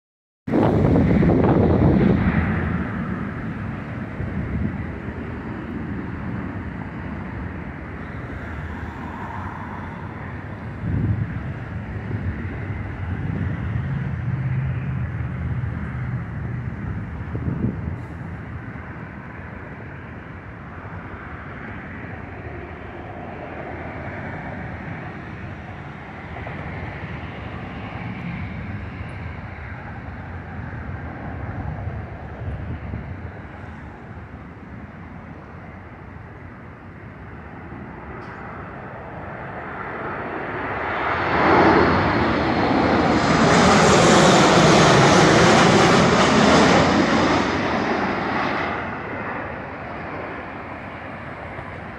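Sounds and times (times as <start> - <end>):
airliner passing overhead: 0.5 - 51.9.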